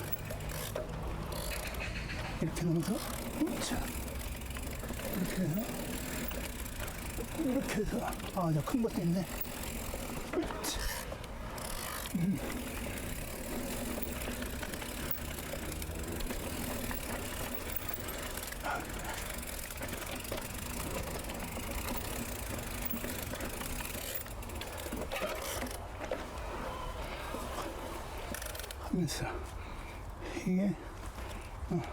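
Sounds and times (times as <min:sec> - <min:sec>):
bike tyres rolling on dirt: 0:00.0 - 0:31.9.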